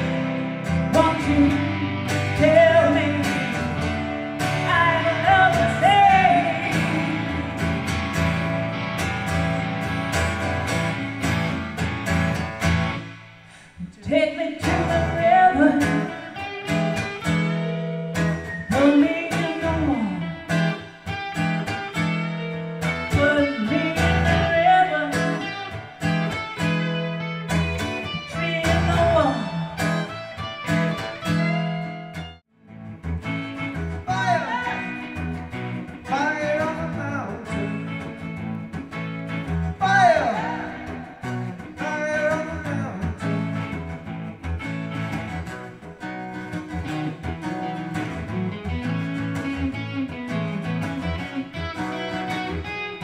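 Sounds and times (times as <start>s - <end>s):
bending guitar melody: 0.0s - 53.0s
strummed guitar chords: 0.0s - 53.0s.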